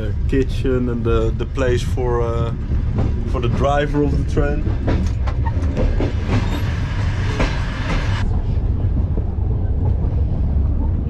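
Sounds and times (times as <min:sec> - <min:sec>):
train carriage rumbling on rails: 0:00.0 - 0:11.0.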